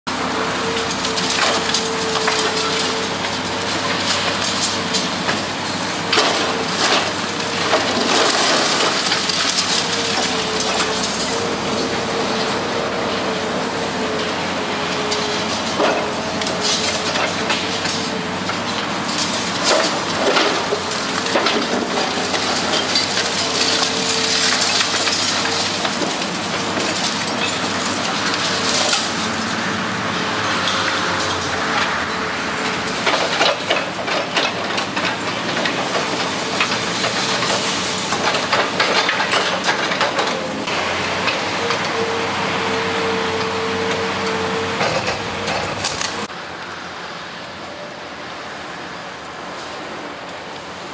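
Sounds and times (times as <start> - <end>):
concrete crunching and cracking: 0.1 - 42.1.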